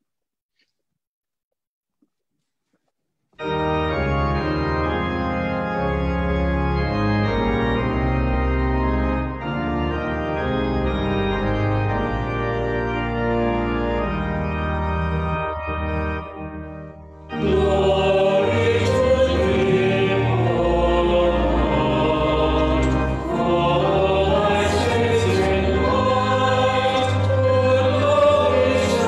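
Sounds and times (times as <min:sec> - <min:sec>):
organ playing hymn chords: 0:03.4 - 0:29.0.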